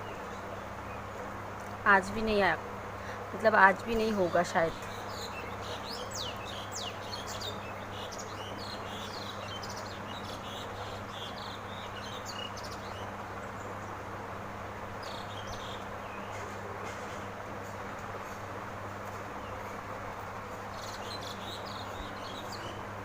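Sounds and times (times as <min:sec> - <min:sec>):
small birds chirping: 0:00.0 - 0:23.0
steady low hum and hiss: 0:00.0 - 0:23.0.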